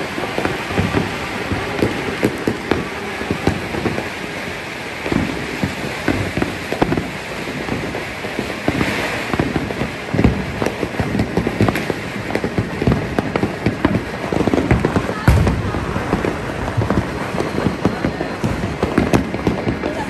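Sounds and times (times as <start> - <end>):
firecrackers crackling: 0.0 - 20.0
fireworks bangs: 0.0 - 20.0.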